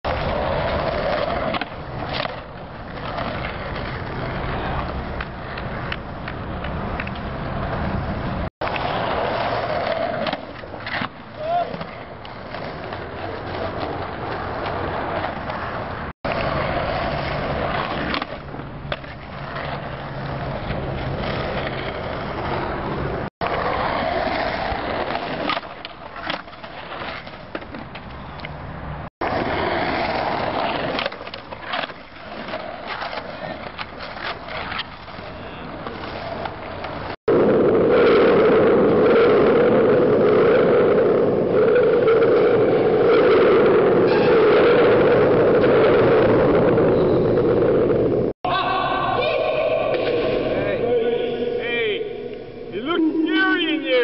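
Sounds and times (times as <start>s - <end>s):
skateboard wheels on asphalt: 0.0s - 54.0s.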